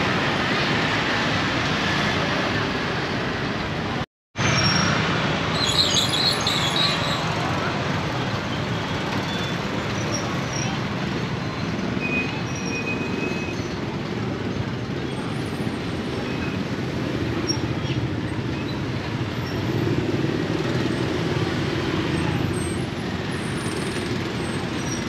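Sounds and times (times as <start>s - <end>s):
busy street traffic rumble: 0.0s - 25.0s.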